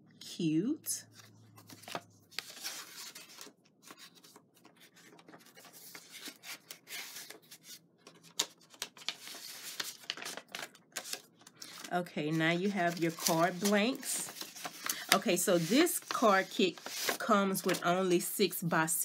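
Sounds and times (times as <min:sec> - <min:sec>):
packaging rustling: 0:01.6 - 0:17.8.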